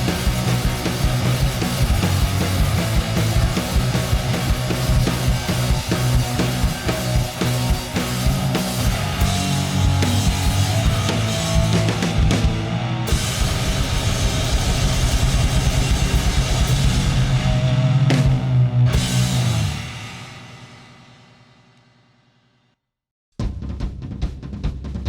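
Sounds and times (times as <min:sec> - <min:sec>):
loud rock music: 0:00.0 - 0:20.8.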